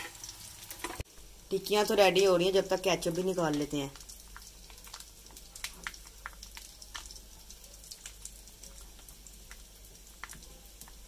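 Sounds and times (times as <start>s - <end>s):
food shallow-frying crackles: 0.0s - 11.0s.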